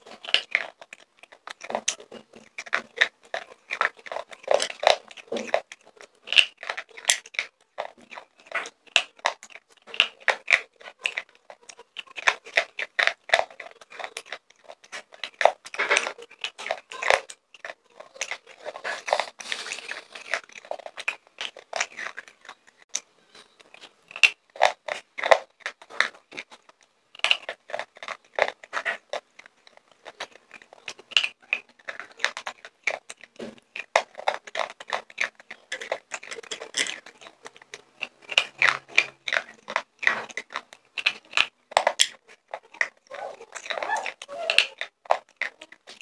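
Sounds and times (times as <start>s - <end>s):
pencil being bitten and chewed: 0.0s - 46.0s.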